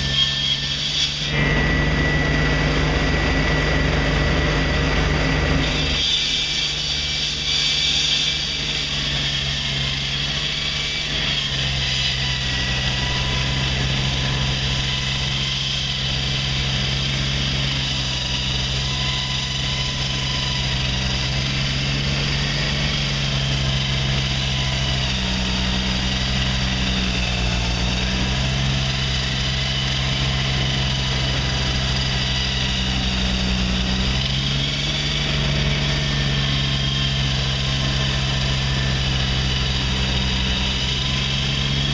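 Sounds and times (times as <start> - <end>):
heavy equipment engine running: 1.3 - 6.3, 11.1 - 41.9.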